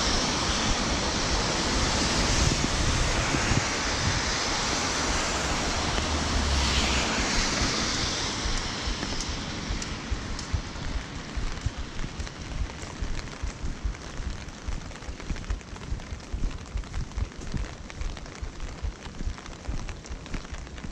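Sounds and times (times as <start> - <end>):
heavy rain: 0.0 - 20.9
raindrops ticking: 0.0 - 20.9
wind on microphone: 0.0 - 20.9.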